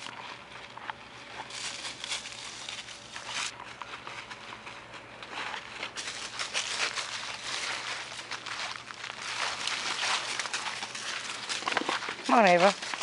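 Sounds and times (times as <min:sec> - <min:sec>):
paws crunching dry leaves: 0:00.0 - 0:13.0.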